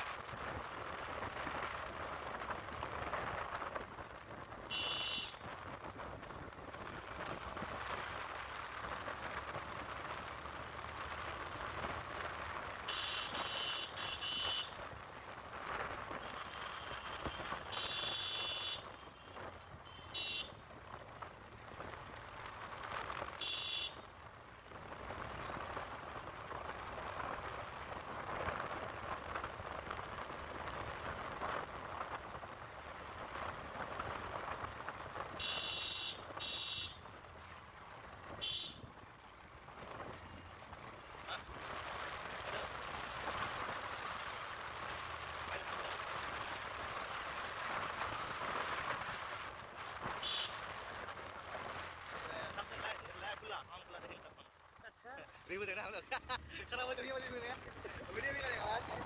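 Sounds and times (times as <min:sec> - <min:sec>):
wind rush and road noise: 0:00.0 - 0:59.0.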